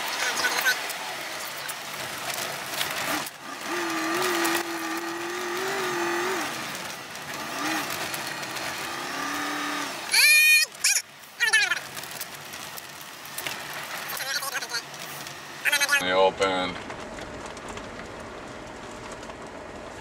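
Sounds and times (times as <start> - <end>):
truck road and engine noise: 0.0 - 20.0.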